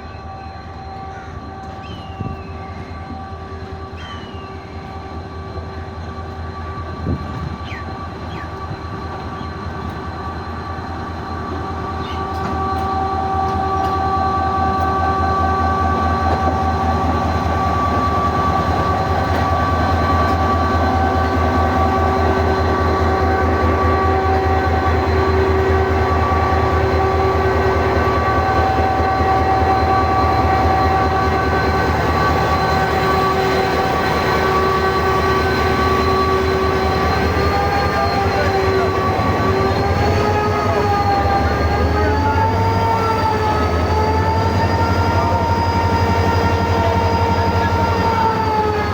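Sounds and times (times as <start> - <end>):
diesel locomotive whine and rumble: 0.0 - 48.9.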